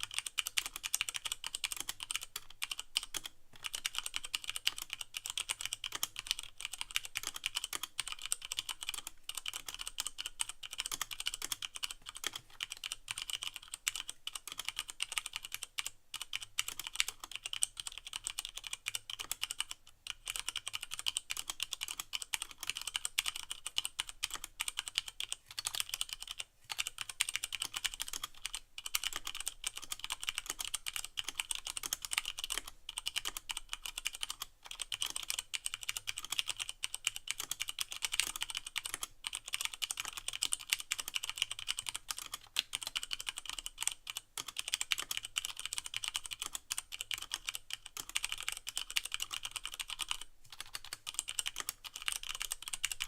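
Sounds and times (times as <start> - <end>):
mechanical keyboard typing: 0.0 - 53.0.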